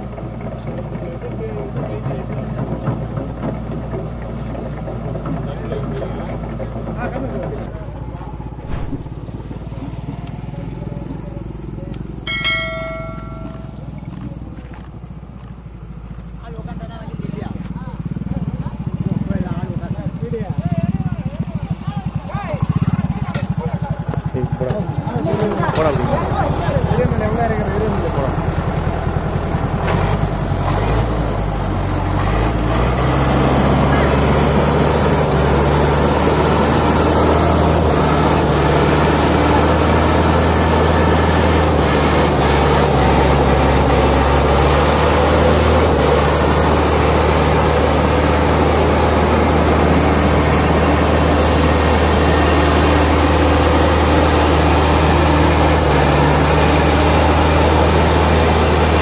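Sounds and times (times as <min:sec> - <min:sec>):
tractor diesel engine labouring: 0:00.0 - 0:59.0.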